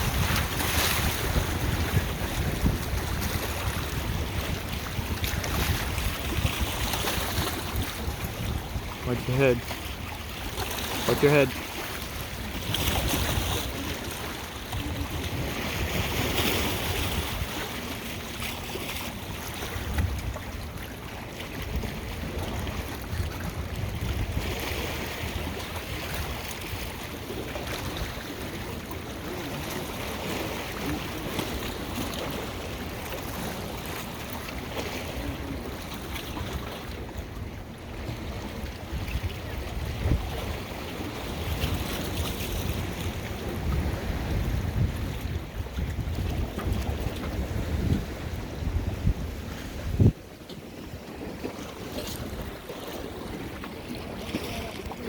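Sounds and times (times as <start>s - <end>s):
wind rumbling on microphone: 0.0s - 20.9s, 21.5s - 28.9s, 34.5s - 55.0s
waves washing onto shore: 0.0s - 55.0s.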